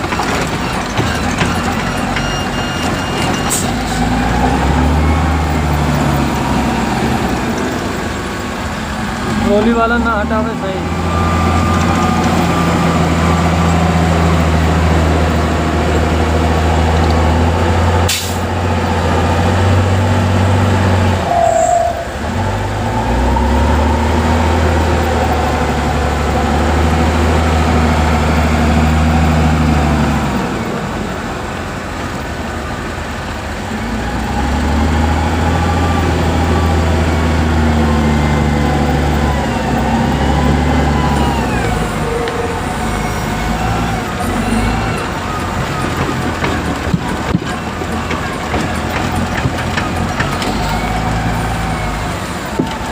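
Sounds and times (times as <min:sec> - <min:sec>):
heavy diesel engine under load: 0:00.0 - 0:52.9.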